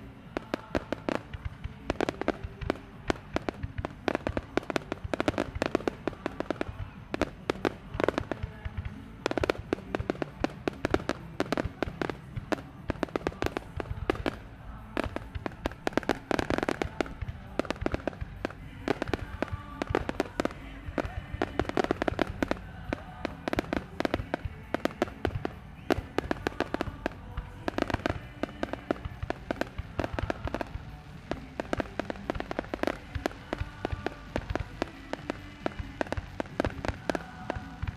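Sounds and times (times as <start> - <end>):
fireworks bursting: 0.0 - 37.9.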